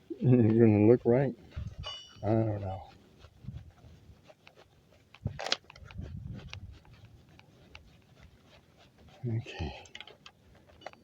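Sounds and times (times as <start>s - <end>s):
fabric rubbing on microphone: 0.0s - 11.0s.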